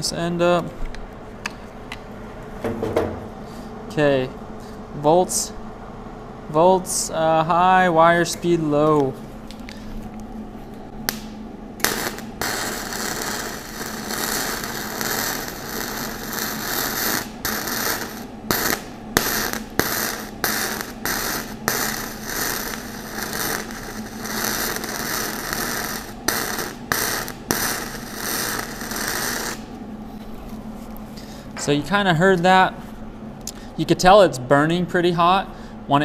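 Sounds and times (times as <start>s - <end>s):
arc welding noise: 6.6s - 36.0s.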